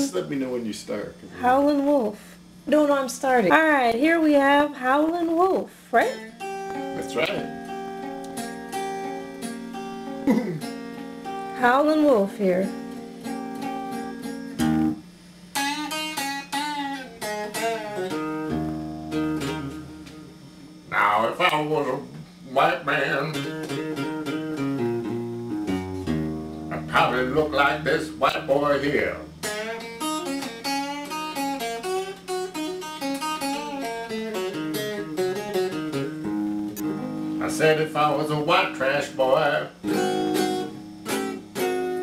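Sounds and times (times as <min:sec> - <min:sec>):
low amplifier hum: 0:00.0 - 0:42.0
electric guitar blues lick: 0:04.4 - 0:42.0.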